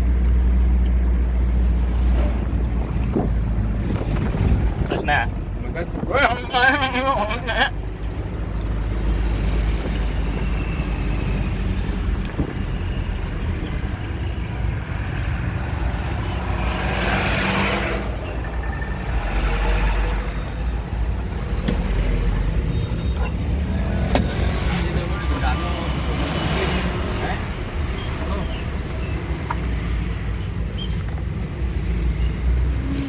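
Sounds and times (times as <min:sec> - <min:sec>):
motor vehicle running: 0:00.0 - 0:33.0.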